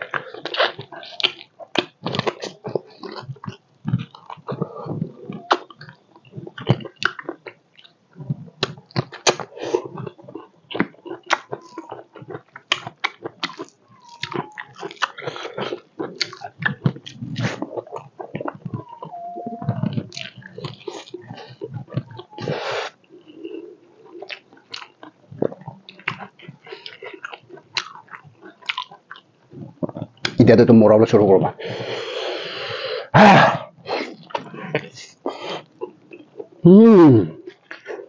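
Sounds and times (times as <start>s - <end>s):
person chewing meat: 0.0s - 30.4s, 33.8s - 36.6s, 37.2s - 38.0s.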